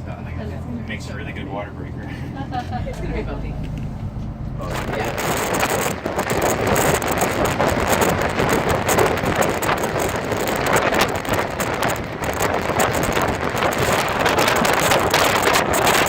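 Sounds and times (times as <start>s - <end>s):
motorboat running at speed: 0.0s - 16.0s
wind buffeting microphone: 0.0s - 16.0s.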